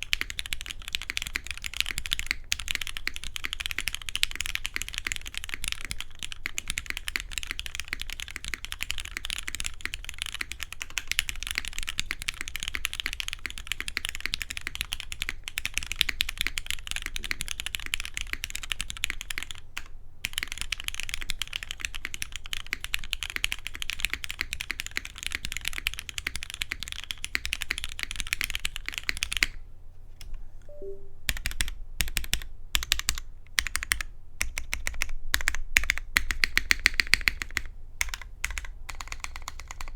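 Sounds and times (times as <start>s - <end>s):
mechanical keyboard typing: 0.0s - 29.6s, 30.9s - 39.9s.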